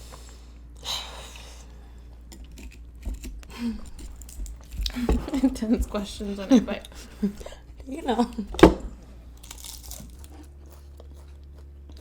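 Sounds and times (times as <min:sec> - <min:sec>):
soft chewing: 0:00.1 - 0:08.5, 0:09.2 - 0:12.0.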